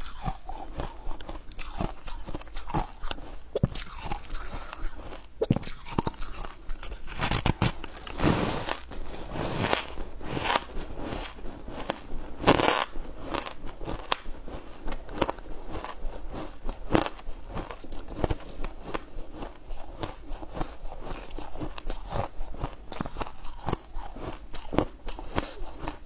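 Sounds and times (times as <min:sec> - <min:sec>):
crunchy food chewing: 0:00.0 - 0:26.0.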